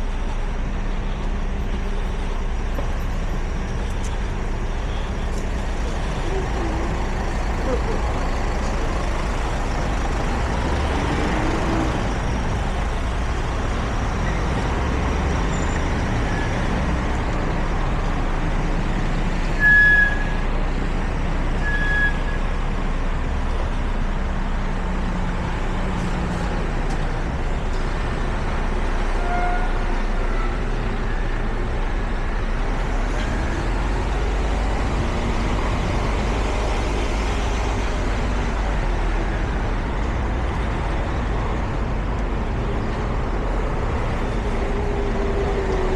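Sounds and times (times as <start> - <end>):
passing traffic rumble: 0.0 - 45.9.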